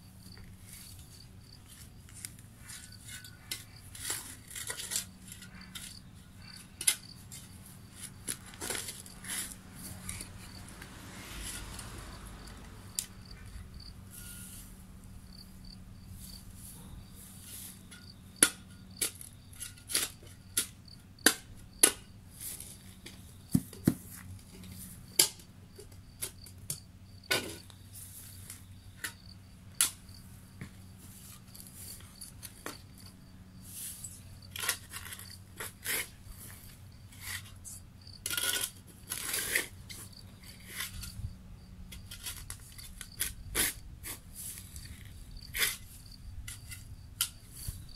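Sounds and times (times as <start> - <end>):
shovel scraping stones in soil: 0.6 - 13.5, 14.1 - 14.8, 16.2 - 41.3, 41.9 - 47.9.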